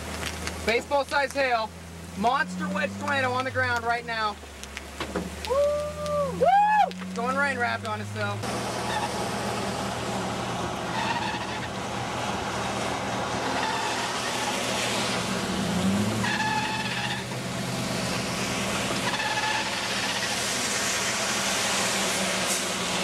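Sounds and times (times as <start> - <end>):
low engine hum: 0.0 - 23.0
rain: 0.0 - 23.0
wind: 0.0 - 23.0.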